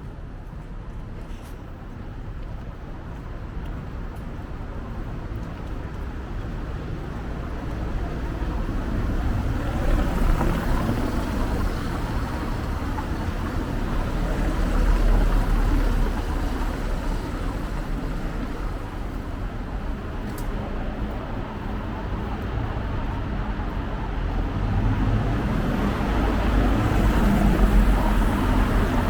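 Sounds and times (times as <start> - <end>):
steady traffic noise: 0.0 - 29.0.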